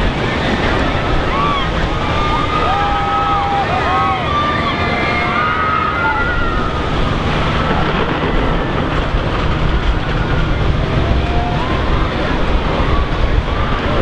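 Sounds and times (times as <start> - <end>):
gulls calling: 0.0 - 14.0
surf: 0.0 - 14.0
wind: 0.0 - 14.0.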